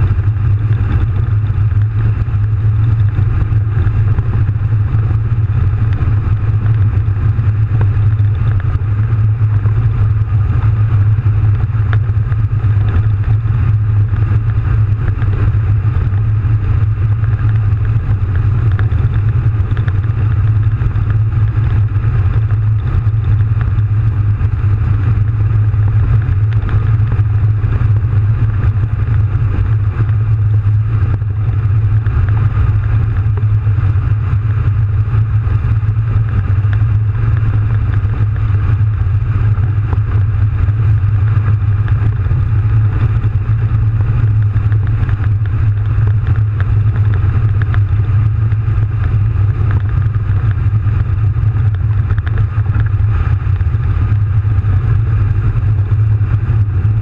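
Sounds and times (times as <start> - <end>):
diesel engine deep drone: 0.0 - 57.0.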